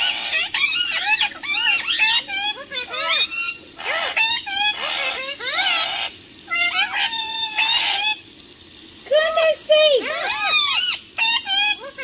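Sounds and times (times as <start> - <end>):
parakeets squawking: 0.0 - 8.3, 10.0 - 12.0.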